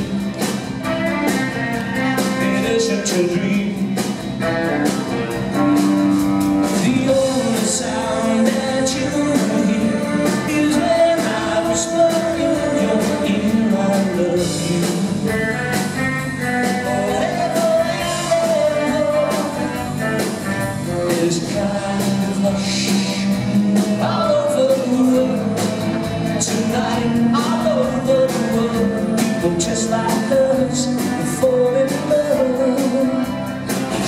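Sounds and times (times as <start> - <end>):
live pop-rock band playing: 0.0 - 34.0
man singing: 2.0 - 4.2, 6.6 - 34.0.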